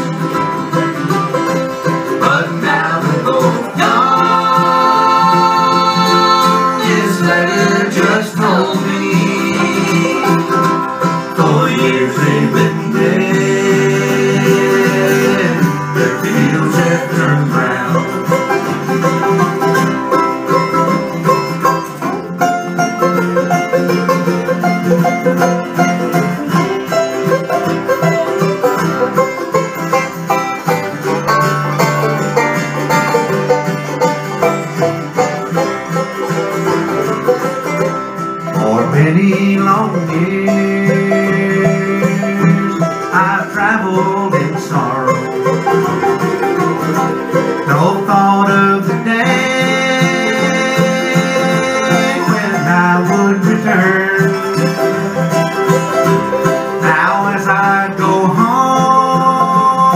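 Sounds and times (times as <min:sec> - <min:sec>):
acoustic bluegrass band playing: 0:00.0 - 0:59.9.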